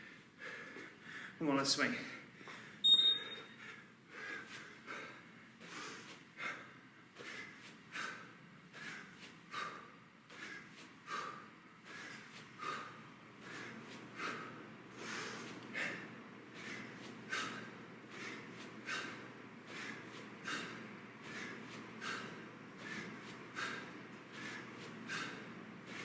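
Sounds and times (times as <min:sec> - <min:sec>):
person breathing sharply: 0:02.1 - 0:26.0.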